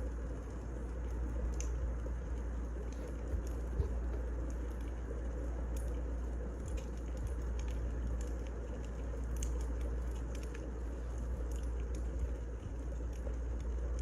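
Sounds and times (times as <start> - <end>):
fire crackles and pops: 0.0 - 14.0
wood fire rumbling: 0.0 - 14.0.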